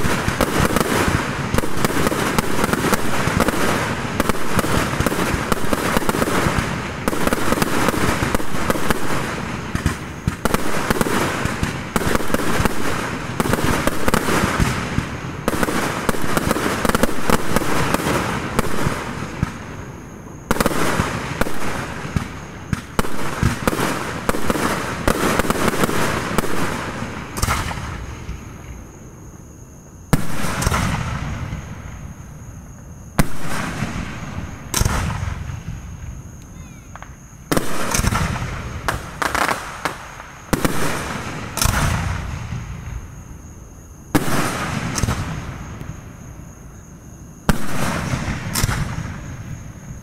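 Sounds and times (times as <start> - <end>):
fireworks launching and bursting: 0.0 - 29.0, 30.1 - 46.4, 47.4 - 50.0.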